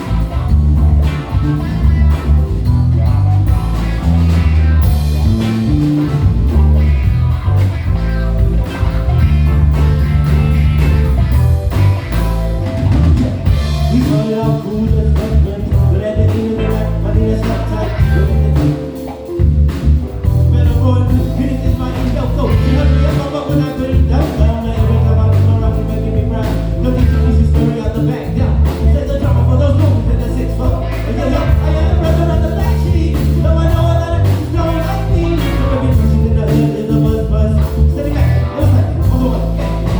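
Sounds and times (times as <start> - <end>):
electric bass line: 0.0 - 39.9
live band playing blues: 0.0 - 39.9.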